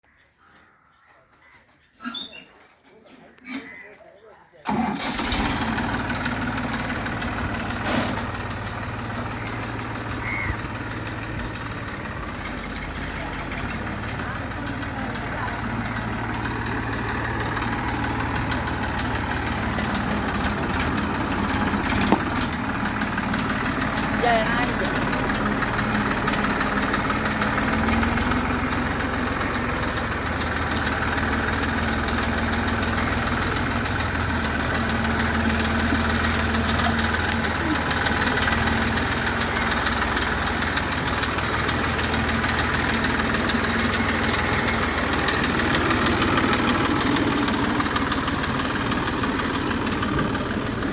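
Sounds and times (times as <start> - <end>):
tractor engine idling: 4.6 - 50.9.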